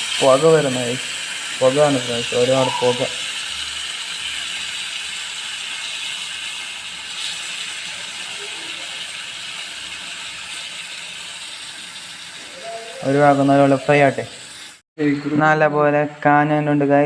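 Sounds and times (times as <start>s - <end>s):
fish sizzling in hot oil: 0.0s - 14.8s.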